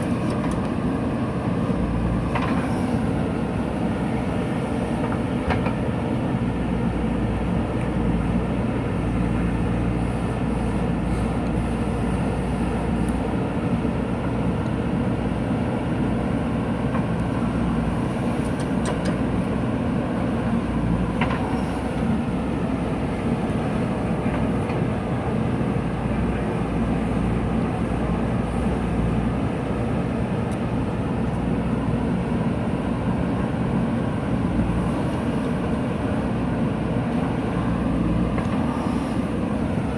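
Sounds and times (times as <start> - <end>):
diesel engine under digging load: 0.0 - 39.9.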